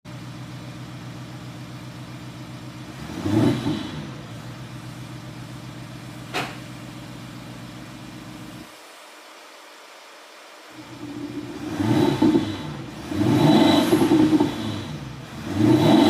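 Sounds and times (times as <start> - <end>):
car engine idling: 0.1 - 8.7, 10.7 - 16.0.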